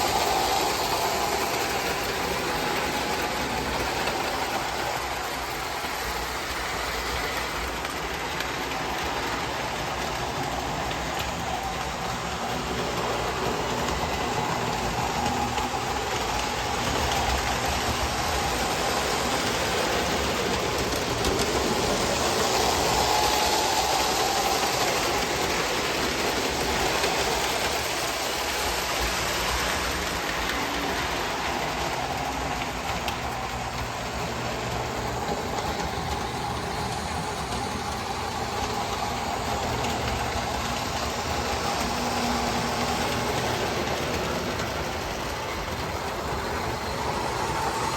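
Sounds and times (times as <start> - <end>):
toy train motor whirring: 0.0 - 47.9
wheels rolling on track: 0.0 - 47.9.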